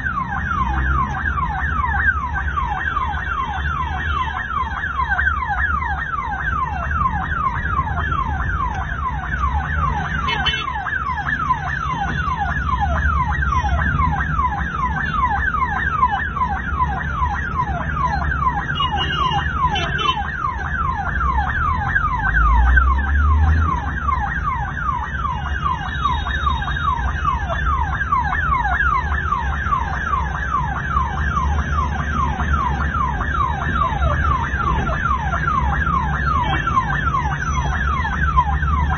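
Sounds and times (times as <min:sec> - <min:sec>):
ambulance siren yelping: 0:00.0 - 0:38.9
engine rumble and road noise: 0:00.0 - 0:38.9.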